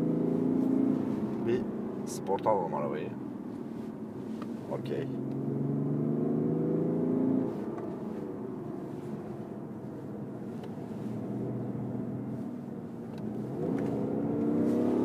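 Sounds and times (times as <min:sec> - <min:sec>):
car engine accelerating: 0:00.0 - 0:02.2, 0:04.5 - 0:15.0.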